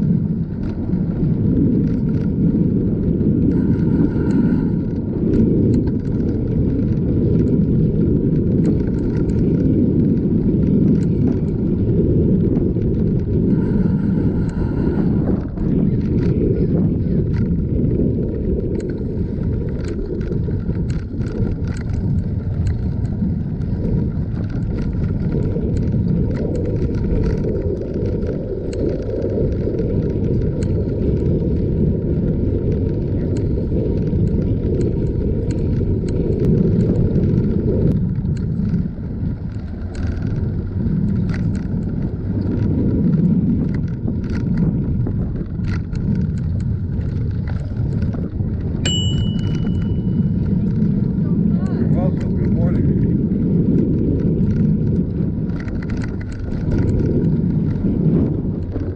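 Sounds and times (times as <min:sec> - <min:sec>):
bicycle tyres on asphalt: 0:00.0 - 0:58.9
wind on microphone: 0:00.0 - 0:58.9
small clicks: 0:03.4 - 0:16.4, 0:18.4 - 0:31.6, 0:32.2 - 0:50.9, 0:53.7 - 0:58.0.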